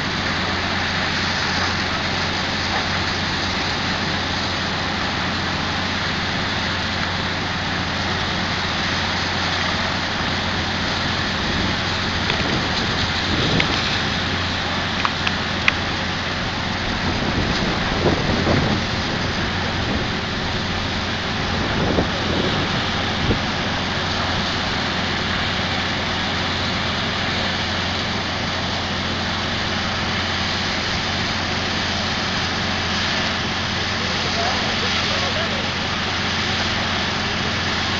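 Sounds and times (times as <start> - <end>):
fire engines pumping drone: 0.0 - 37.9
fire hose streams hissing: 0.0 - 37.9.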